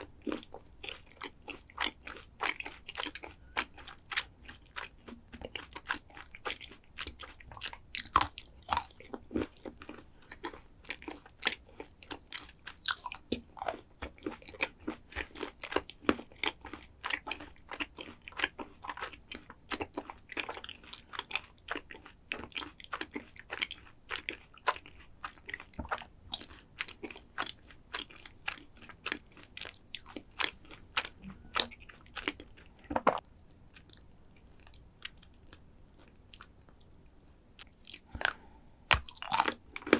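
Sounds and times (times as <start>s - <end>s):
person chewing crunchy dessert: 0.0s - 39.9s.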